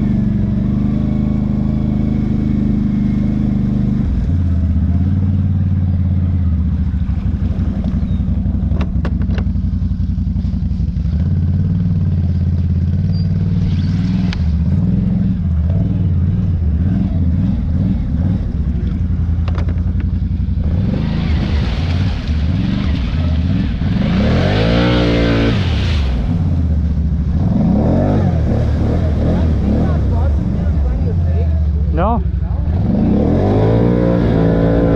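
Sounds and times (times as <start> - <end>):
quad engine running: 0.0 - 34.9
water splashing: 0.0 - 34.9.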